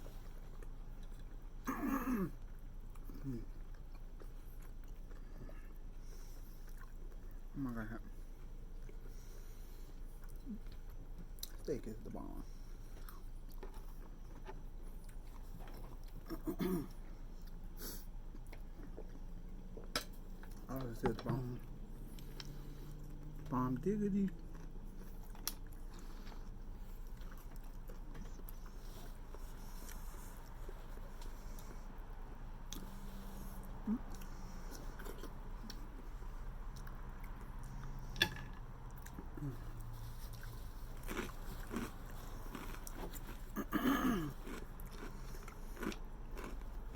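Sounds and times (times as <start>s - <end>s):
person chewing: 0.0s - 12.1s, 12.7s - 46.9s
low steady hum: 0.0s - 46.9s.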